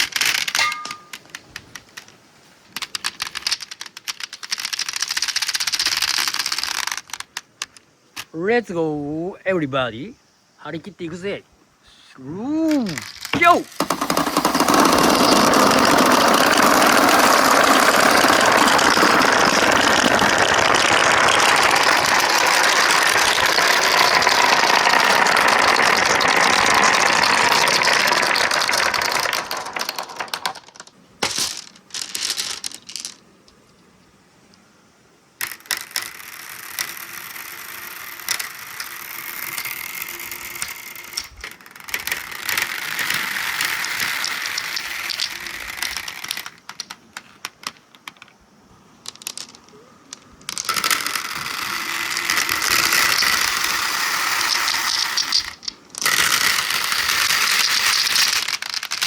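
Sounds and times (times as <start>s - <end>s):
marbles rolling on steel ramps: 0.0s - 8.4s, 12.6s - 33.9s, 35.4s - 59.0s.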